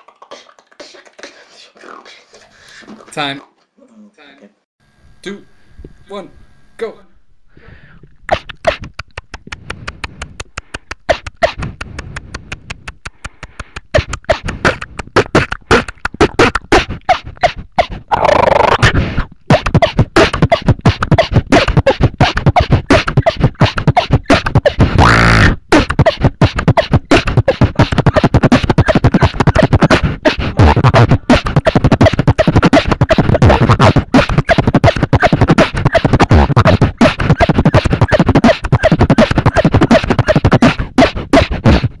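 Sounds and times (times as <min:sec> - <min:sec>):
person beatboxing: 0:00.0 - 0:03.1, 0:08.3 - 0:42.0.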